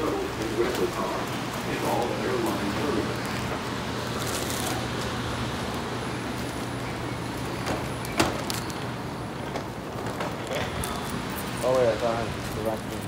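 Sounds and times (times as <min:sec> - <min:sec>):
passengers walking: 0:00.0 - 0:13.0
train car low hum: 0:00.0 - 0:13.0.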